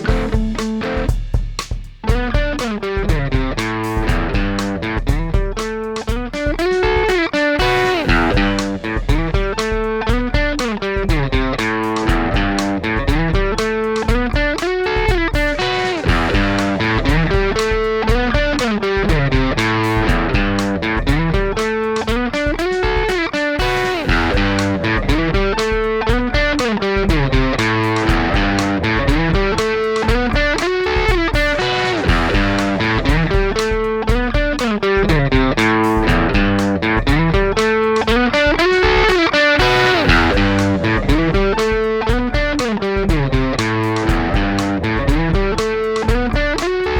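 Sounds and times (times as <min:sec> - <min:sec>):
electric guitar picked notes: 0:00.0 - 0:01.3, 0:02.1 - 0:46.9.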